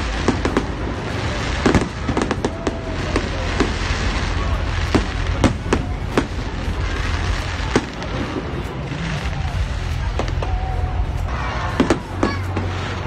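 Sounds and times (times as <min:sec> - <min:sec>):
background noise: 0:00.0 - 0:13.0
fireworks bangs: 0:00.0 - 0:13.0.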